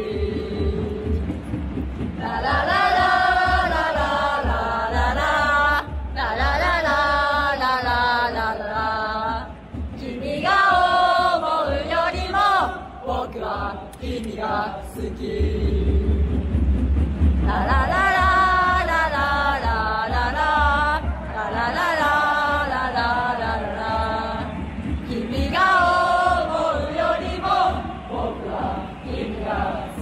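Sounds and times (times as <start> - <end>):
football supporters chanting: 0.0 - 1.3, 2.2 - 16.5, 17.5 - 30.0.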